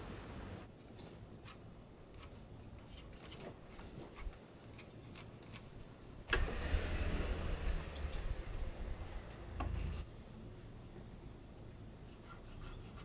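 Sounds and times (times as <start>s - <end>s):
low hum with rustling: 0.0s - 13.0s.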